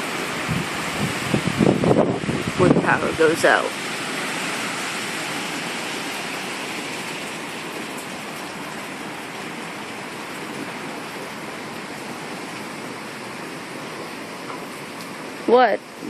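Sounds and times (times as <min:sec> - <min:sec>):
heavy rain rushing: 0:00.0 - 0:16.0.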